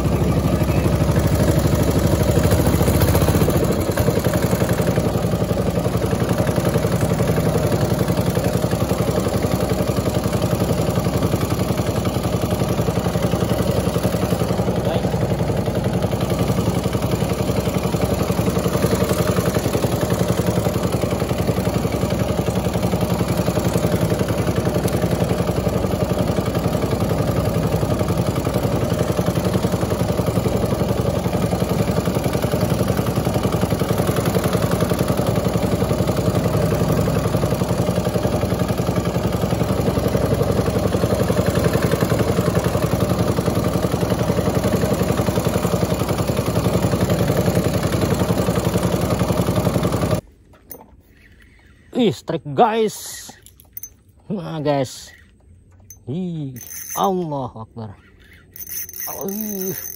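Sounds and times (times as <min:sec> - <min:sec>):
small boat engine running: 0:00.0 - 0:52.0, 0:52.6 - 0:59.9.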